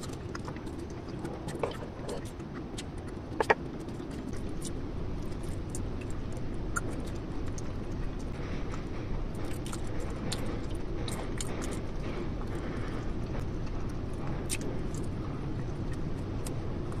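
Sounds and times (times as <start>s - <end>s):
low background noise: 0.0s - 17.0s
wet chewing and lip smacks: 0.0s - 17.0s.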